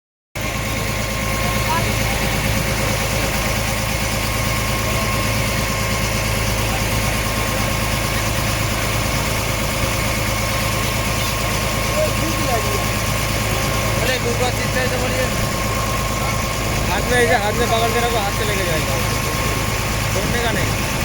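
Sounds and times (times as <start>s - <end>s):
ferry engine droning: 0.4s - 21.0s.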